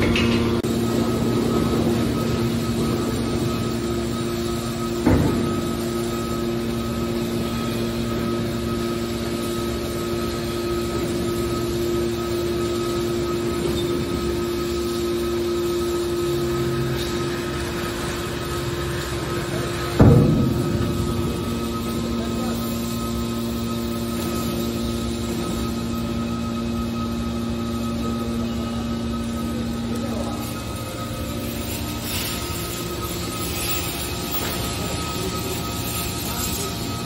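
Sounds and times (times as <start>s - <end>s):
hydraulic unit humming: 0.0s - 37.0s.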